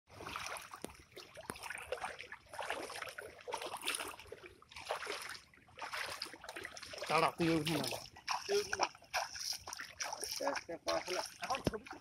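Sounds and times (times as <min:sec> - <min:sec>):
floodwater sloshing and splashing: 0:00.1 - 0:12.0.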